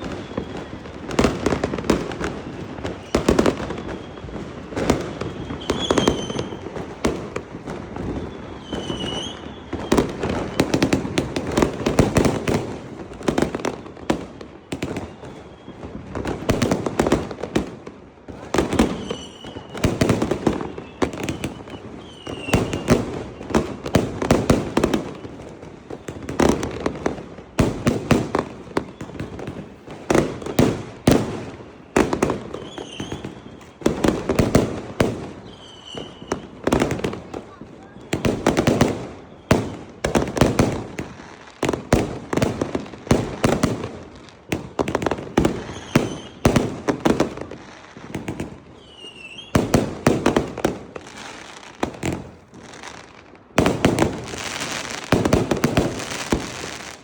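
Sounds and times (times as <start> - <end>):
firework whistles: 0.0 - 57.0
fireworks bangs and crackles: 0.0 - 57.0.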